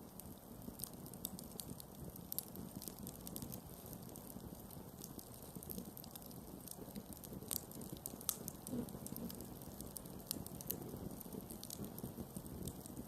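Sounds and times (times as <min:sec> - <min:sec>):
wood crackling and popping: 0:00.0 - 0:13.0
fire flames rumbling: 0:00.1 - 0:13.0.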